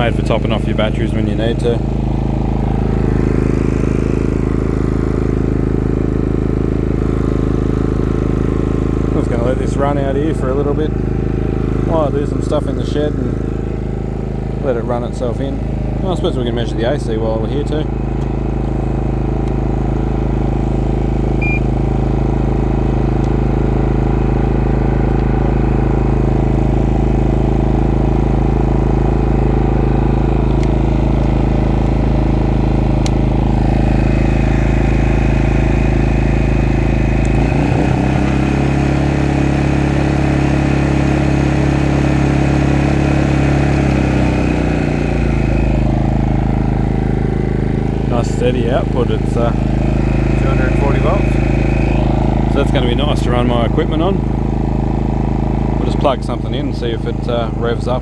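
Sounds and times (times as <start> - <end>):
generator engine running: 0.0 - 58.0.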